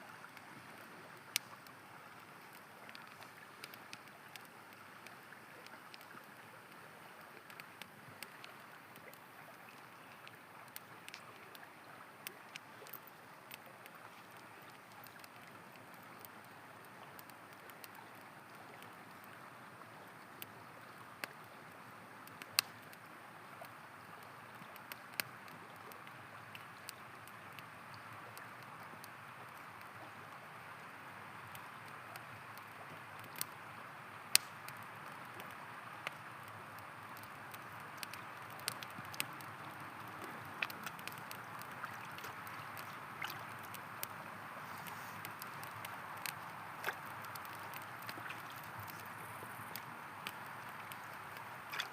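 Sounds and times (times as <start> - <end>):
campfire wood crackling: 0.0 - 51.9
river water flowing: 0.0 - 51.9.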